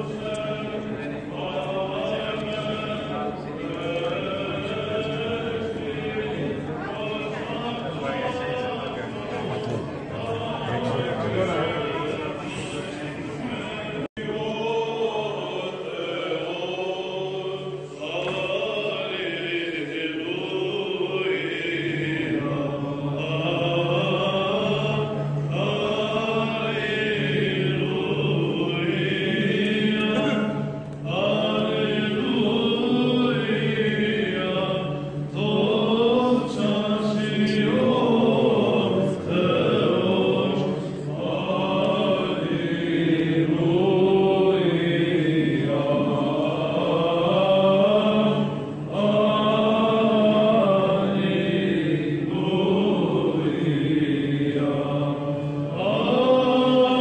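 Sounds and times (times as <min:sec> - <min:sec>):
men chanting with held drone: 0:00.0 - 0:57.0.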